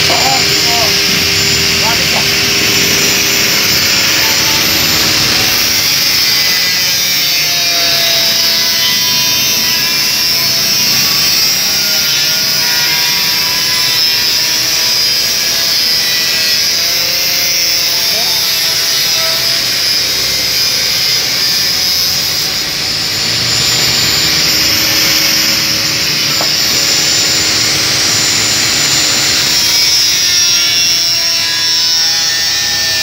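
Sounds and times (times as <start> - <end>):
angle grinder cutting steel: 0.0 - 33.0.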